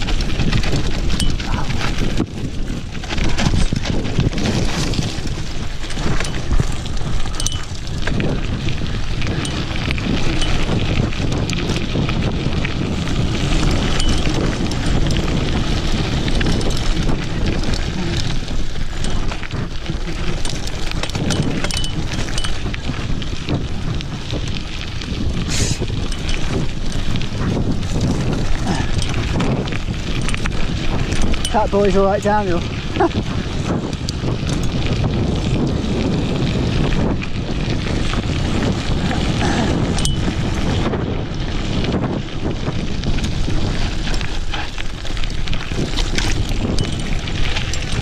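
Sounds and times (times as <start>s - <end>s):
bike rattling: 0.0s - 48.0s
tyres crunching over gravel: 0.0s - 48.0s
wind buffeting microphone: 0.0s - 48.0s.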